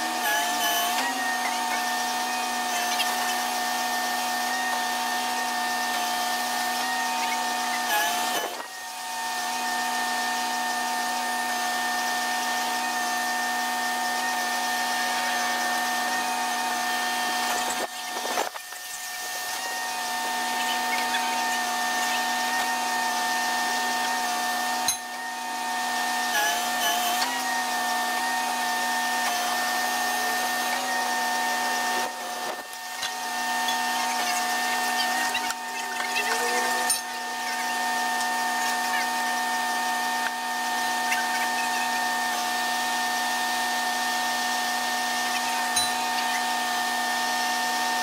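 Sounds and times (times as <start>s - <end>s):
hydraulic pump whining: 0.0s - 48.0s.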